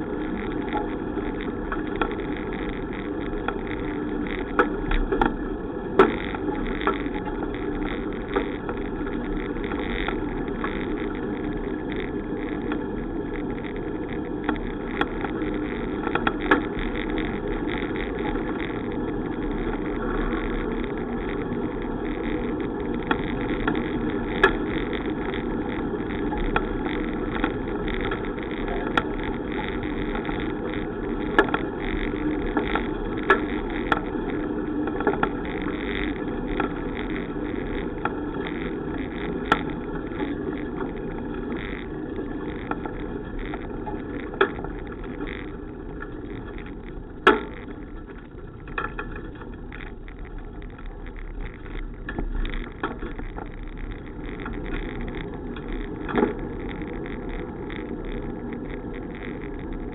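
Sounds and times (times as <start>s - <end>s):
bicycle ride noise: 0.0s - 59.9s
sharp clicks and knocks: 0.2s - 59.9s.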